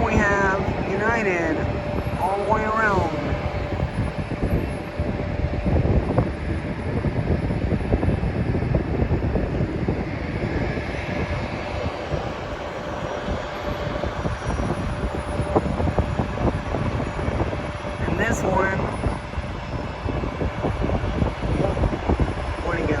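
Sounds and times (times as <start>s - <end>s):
faint engine whine: 0.0s - 23.0s
jet engines rumbling: 0.0s - 23.0s.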